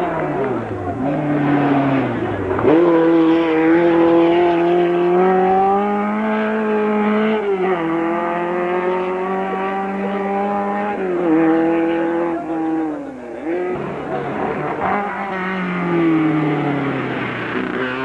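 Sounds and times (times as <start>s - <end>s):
race car engine at full throttle: 0.0s - 18.0s.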